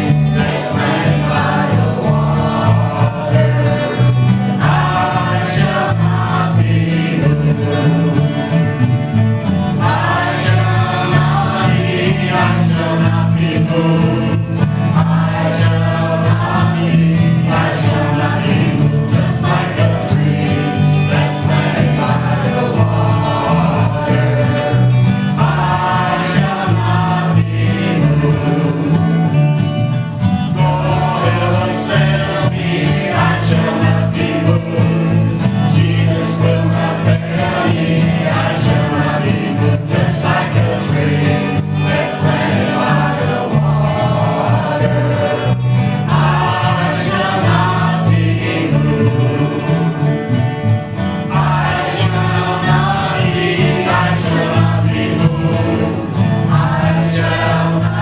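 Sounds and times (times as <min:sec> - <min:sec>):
acoustic guitar: 0:00.0 - 0:58.0
vocal group singing gospel: 0:00.0 - 0:58.0.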